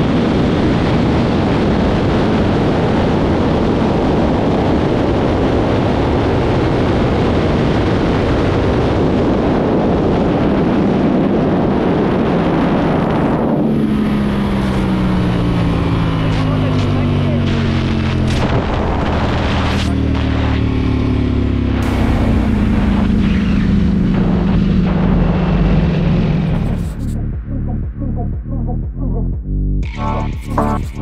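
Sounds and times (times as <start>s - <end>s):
wind rushing over microphone: 0.0s - 27.2s
motorcycle engine: 0.0s - 29.0s.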